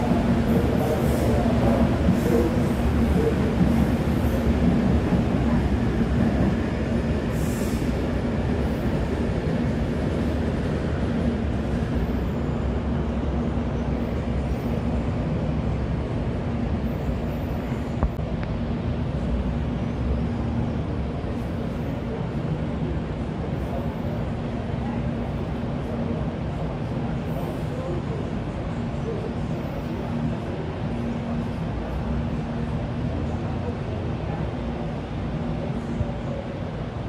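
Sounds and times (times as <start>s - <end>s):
electric train wheels rumbling: 0.0s - 37.0s.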